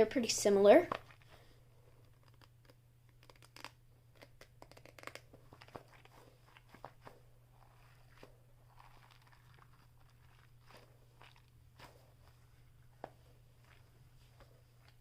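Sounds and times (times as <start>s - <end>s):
stress ball being squeezed: 2.0s - 15.0s.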